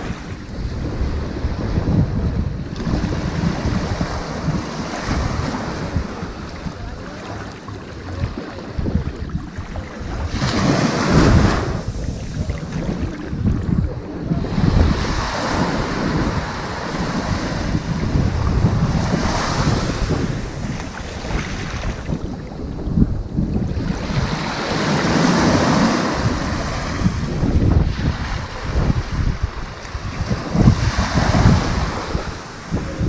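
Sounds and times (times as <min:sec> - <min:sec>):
ocean surf on sandy beach: 0:00.0 - 0:33.0.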